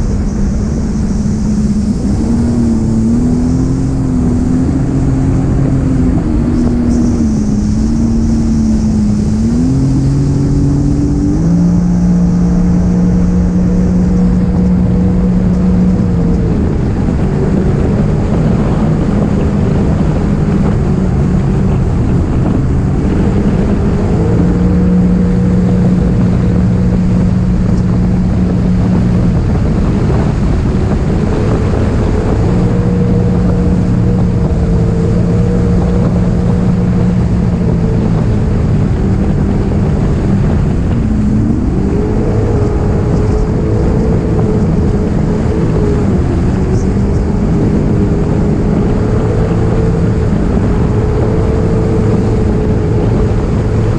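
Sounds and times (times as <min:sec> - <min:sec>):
jet ski engine running: 0:00.0 - 0:53.9
wind buffeting microphone: 0:00.0 - 0:53.9.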